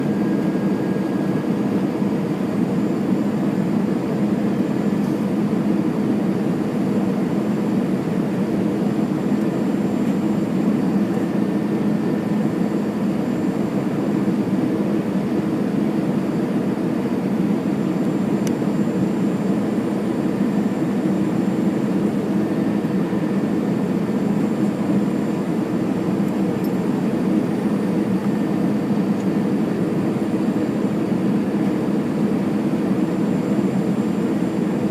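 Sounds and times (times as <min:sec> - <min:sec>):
airplane cabin drone: 0:00.0 - 0:34.9.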